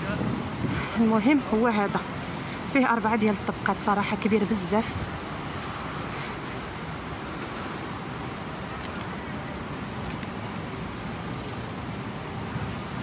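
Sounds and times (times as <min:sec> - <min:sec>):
hum of city street traffic: 0:00.0 - 0:13.0.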